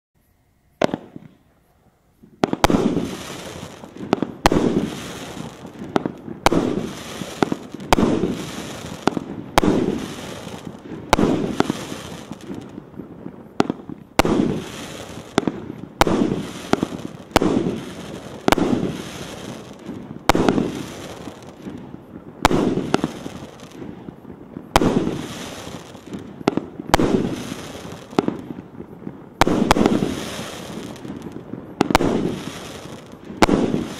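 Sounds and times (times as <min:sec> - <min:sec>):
firework shots banging and crackling: 0:00.8 - 0:01.5, 0:02.2 - 0:33.9.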